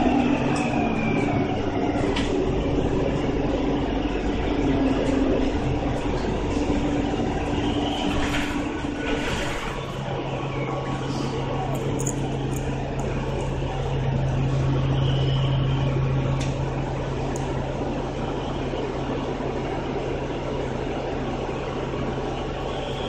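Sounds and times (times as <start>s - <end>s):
bus engine humming: 0.0s - 23.0s.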